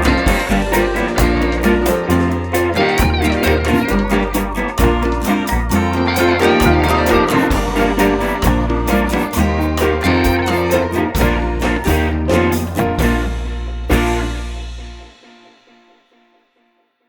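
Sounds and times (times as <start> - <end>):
bass line: 0.0 - 15.1
steady beat: 0.0 - 15.5
guitar: 0.0 - 16.8.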